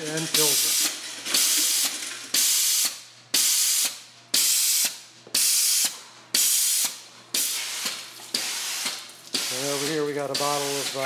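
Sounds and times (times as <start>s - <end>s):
spraying hiss bursts: 0.5s - 11.0s.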